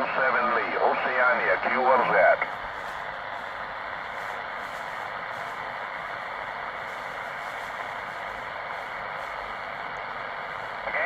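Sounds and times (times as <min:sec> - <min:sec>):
radio band noise hiss: 0:00.0 - 0:11.0.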